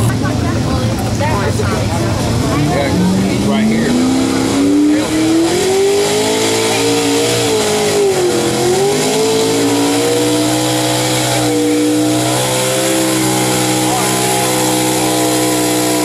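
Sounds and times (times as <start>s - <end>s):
truck engine at full throttle: 0.0s - 16.0s.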